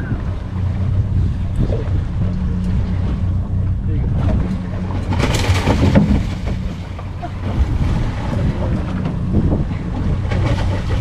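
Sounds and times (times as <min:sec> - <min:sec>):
boat engine idling: 0:00.0 - 0:11.0
waves slapping hull: 0:00.0 - 0:11.0
wind buffeting microphone: 0:00.0 - 0:11.0.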